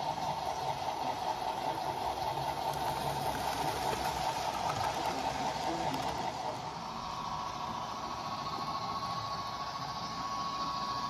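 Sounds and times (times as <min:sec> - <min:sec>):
model train motor whirring: 0:00.0 - 0:11.0.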